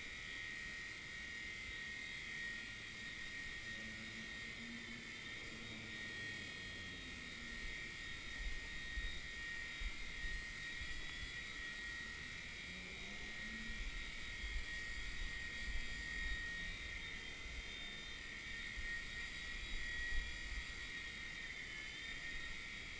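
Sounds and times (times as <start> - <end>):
helicopter rotor whining: 0.0 - 22.9.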